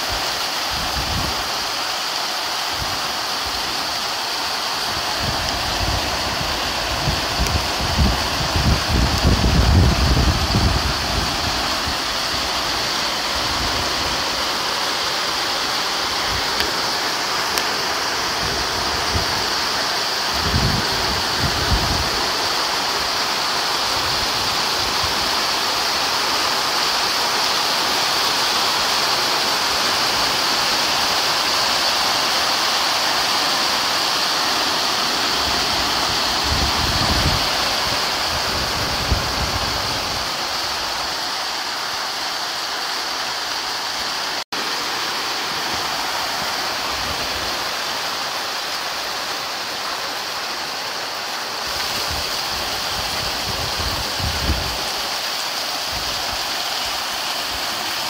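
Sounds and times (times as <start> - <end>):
heavy rain pouring: 0.0 - 58.0
running water: 0.0 - 58.0.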